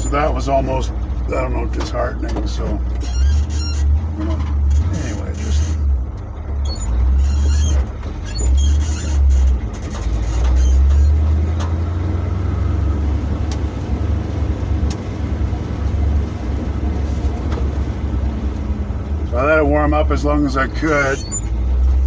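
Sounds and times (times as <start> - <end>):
truck engine rumbling: 0.0 - 22.0
tyre and road noise: 0.0 - 22.0.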